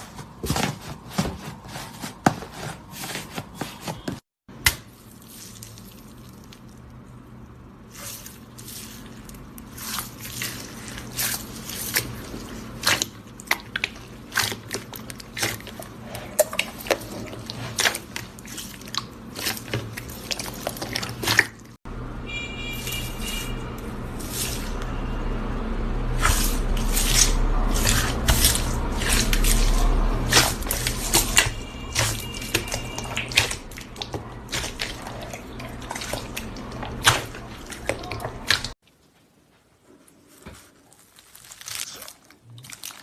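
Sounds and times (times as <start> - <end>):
slime squelching: 0.0 - 25.1, 26.0 - 39.0, 40.2 - 43.0.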